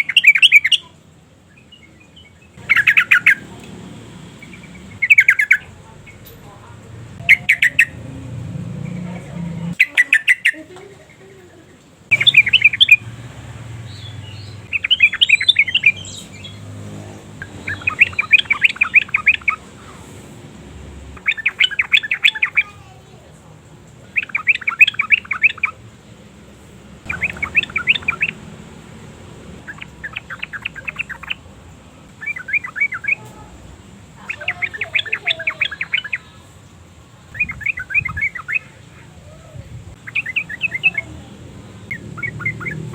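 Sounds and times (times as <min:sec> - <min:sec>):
bulbul chattering song: 0:00.0 - 0:11.5, 0:12.1 - 0:26.1, 0:27.0 - 0:42.9.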